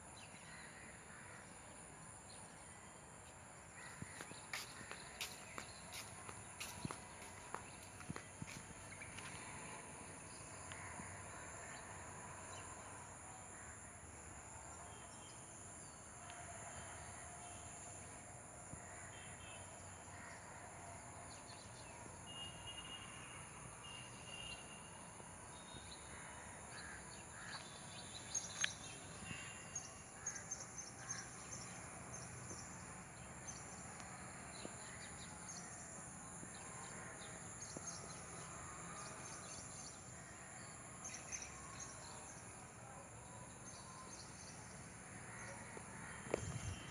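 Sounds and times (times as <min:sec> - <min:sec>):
faint outdoor background: 0:00.0 - 0:46.9.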